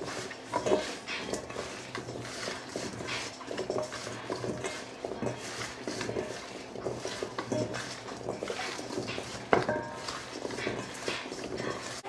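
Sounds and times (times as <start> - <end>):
vegetables rattling in metal bowl: 0.0 - 12.0.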